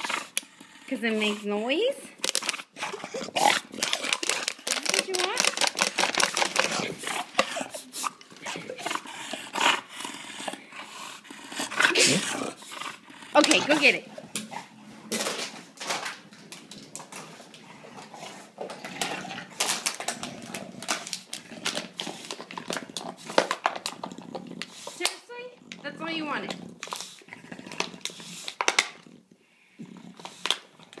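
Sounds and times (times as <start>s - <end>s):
dog chewing plastic bottle: 2.2s - 31.0s.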